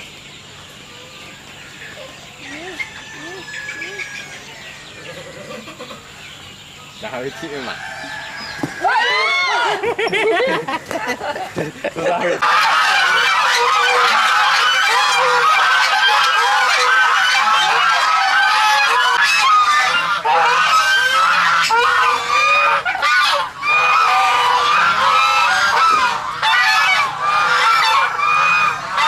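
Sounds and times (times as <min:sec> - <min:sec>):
flock of birds calling: 0:00.0 - 0:29.0.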